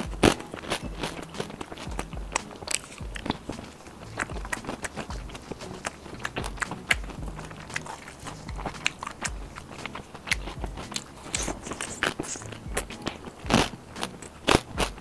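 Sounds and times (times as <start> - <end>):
chewing with mouth smacks: 0.0 - 15.0.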